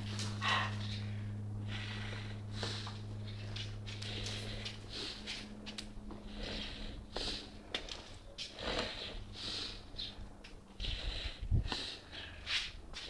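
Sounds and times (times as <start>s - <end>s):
soft scuffs and rustles: 0.0s - 13.0s
steady low hum: 0.0s - 13.0s.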